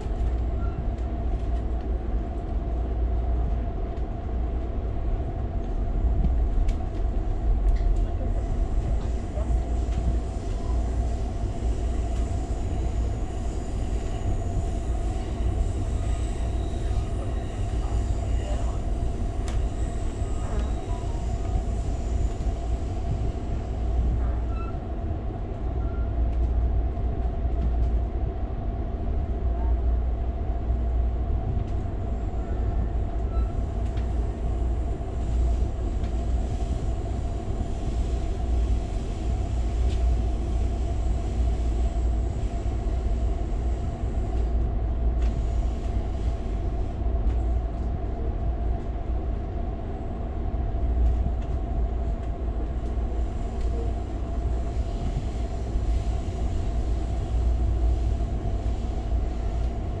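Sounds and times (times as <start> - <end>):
constant hum: 0.0 - 60.0
train car rumbling on track: 0.0 - 60.0.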